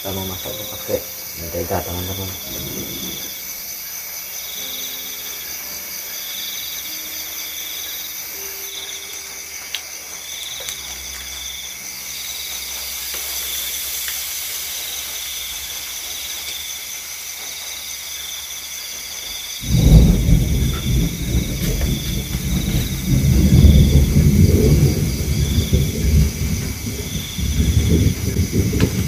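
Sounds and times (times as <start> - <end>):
high-pitched insect trilling: 0.0 - 29.0
pulsing insect call: 0.0 - 29.0.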